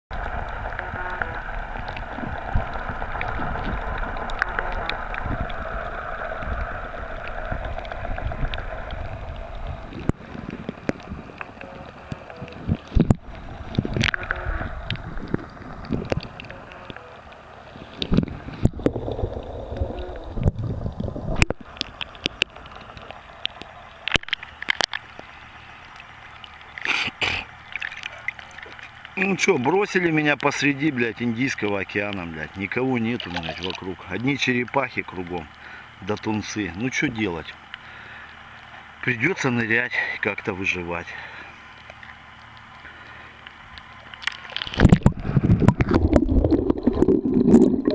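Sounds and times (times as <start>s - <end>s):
clicks and gurgles underwater: 0.1s - 47.9s
underwater hum: 0.1s - 47.9s
underwater water noise: 0.1s - 47.9s
water splashes: 0.1s - 47.9s.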